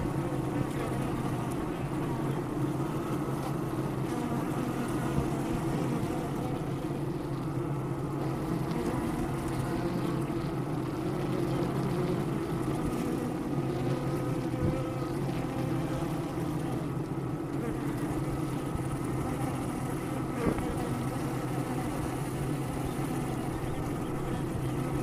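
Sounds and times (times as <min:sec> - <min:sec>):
honey bees buzzing: 0:00.0 - 0:25.0.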